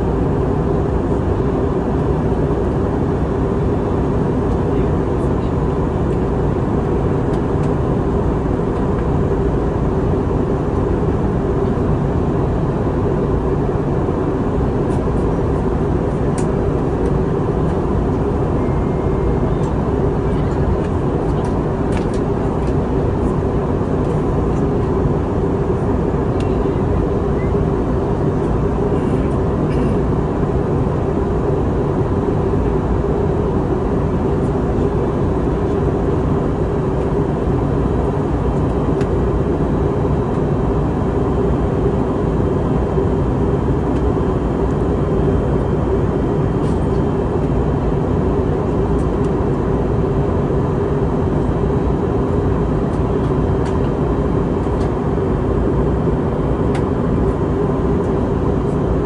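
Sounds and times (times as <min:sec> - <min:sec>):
aircraft cabin engine drone: 0:00.0 - 0:59.0.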